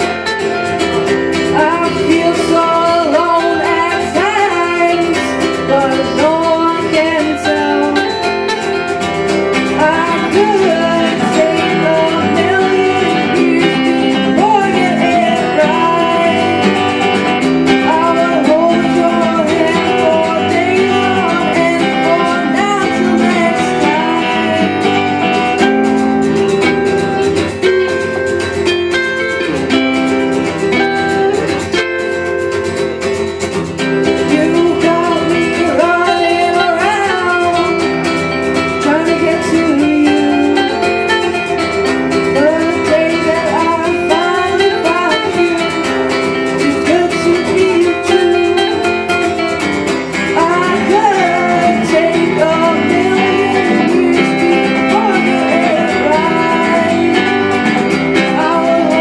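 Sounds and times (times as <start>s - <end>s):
acoustic guitars strummed and plucked: 0.0s - 59.0s
person singing: 0.0s - 59.0s.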